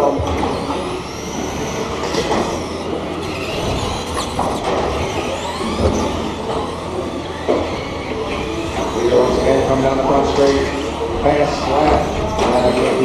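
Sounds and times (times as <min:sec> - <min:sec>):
rc truck motors whining: 0:00.0 - 0:13.0
steady background noise: 0:00.0 - 0:13.0.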